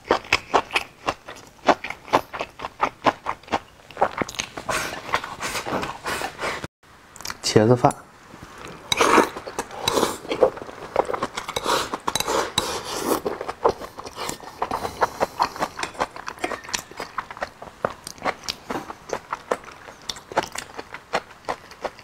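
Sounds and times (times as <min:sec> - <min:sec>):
chewing and mouth sounds: 0:00.0 - 0:06.4, 0:08.6 - 0:22.0.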